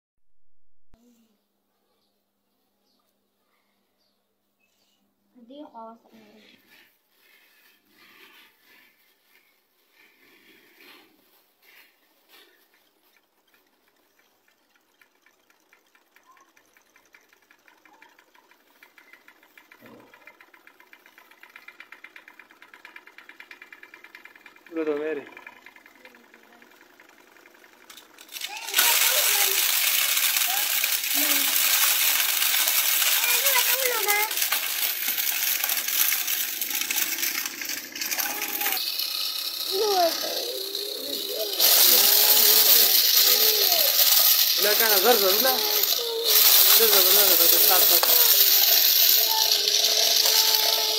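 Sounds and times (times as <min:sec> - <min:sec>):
small electric motor clattering: 0:05.4 - 0:50.9.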